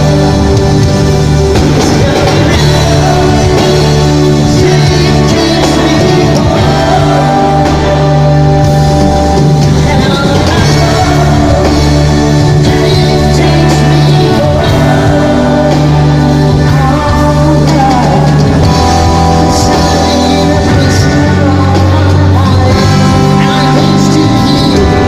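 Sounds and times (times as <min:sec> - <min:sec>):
live pop-rock band: 0:00.0 - 0:25.0
person singing: 0:00.0 - 0:25.0.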